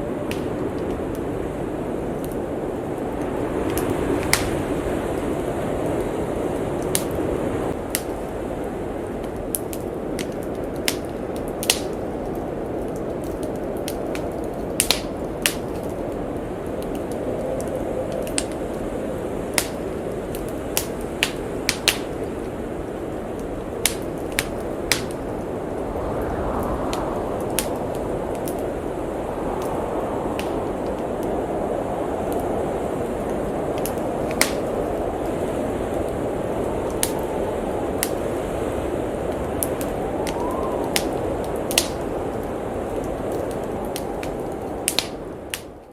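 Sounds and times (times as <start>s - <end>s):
blizzard wind rushing: 0.0s - 45.9s
wood fire crackling: 0.0s - 45.9s.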